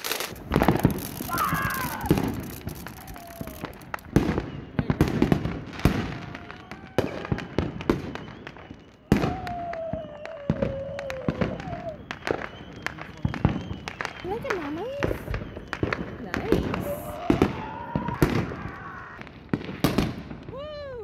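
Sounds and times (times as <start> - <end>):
falling firework whistle: 0.0 - 21.0
fireworks crackling and banging: 0.0 - 21.0.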